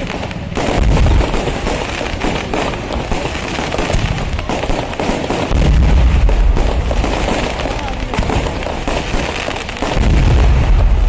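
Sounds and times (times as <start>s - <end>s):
heavy firework booms: 0.0s - 11.0s
rapid firecracker bangs: 0.0s - 11.0s.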